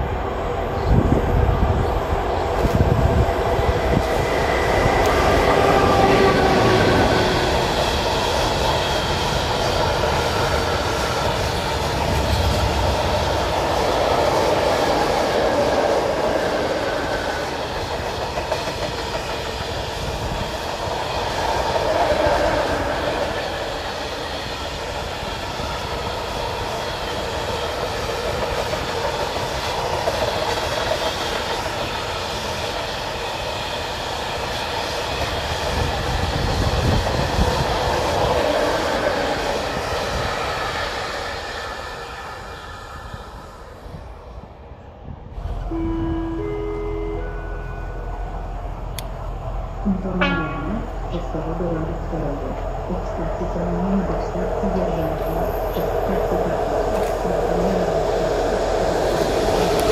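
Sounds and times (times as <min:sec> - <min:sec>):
train wheels clattering on rail: 0:02.4 - 0:42.1, 0:50.2 - 0:59.9.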